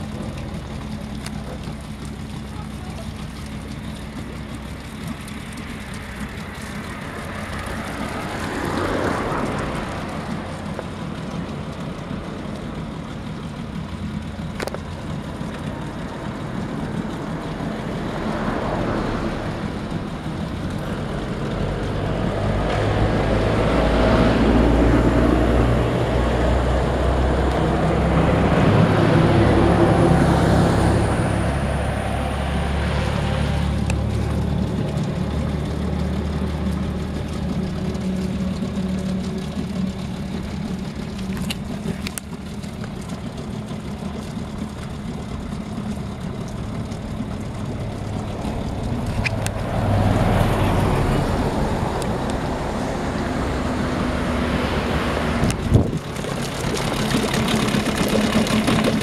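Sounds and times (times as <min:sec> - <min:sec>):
low engine hum: 0:00.0 - 0:59.0
steady traffic rumble: 0:00.0 - 0:59.0
vehicles passing: 0:00.0 - 0:59.0.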